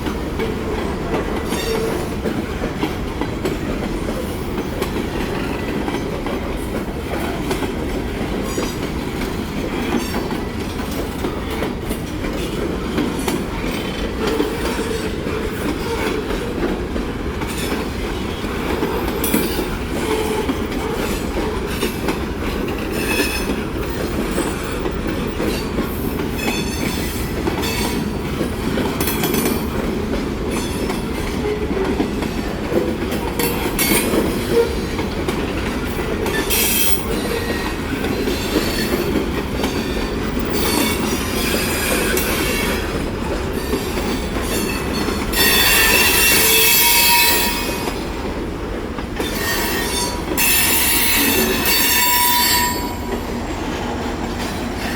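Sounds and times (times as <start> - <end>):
freight train cars rolling: 0.0 - 54.9.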